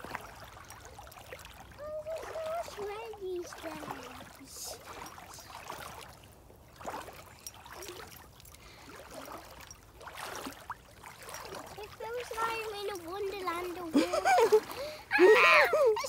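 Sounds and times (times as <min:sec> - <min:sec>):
feet wading through water: 0:00.0 - 0:16.0.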